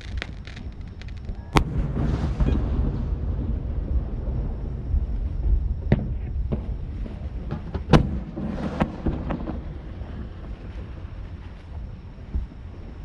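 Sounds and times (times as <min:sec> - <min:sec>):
fireworks bangs and pops: 0:00.0 - 0:13.0
fireworks crackle: 0:00.0 - 0:13.0
steady low rumble: 0:00.0 - 0:13.0.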